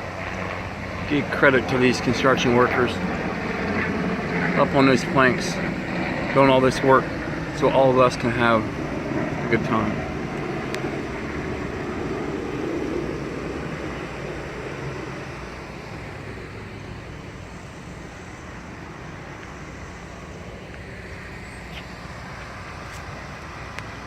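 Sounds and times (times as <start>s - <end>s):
low hum and hiss: 0.0s - 24.0s.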